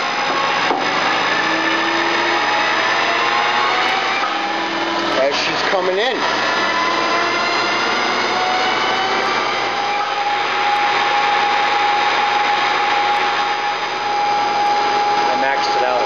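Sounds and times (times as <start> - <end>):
lathe machine whine: 0.0 - 16.0.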